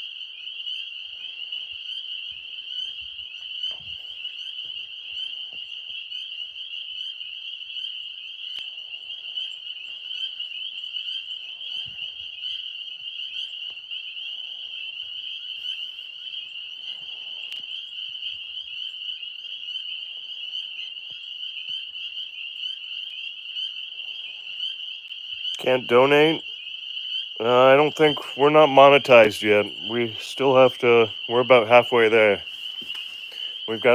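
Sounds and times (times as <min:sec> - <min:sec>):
tree frogs trilling: 0:00.0 - 0:33.9.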